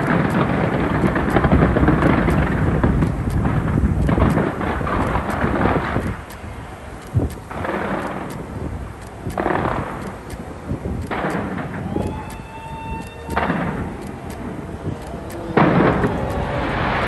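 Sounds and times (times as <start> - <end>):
fireworks booming: 0.0 - 6.3, 7.2 - 17.0
fireworks crackling: 0.0 - 17.0.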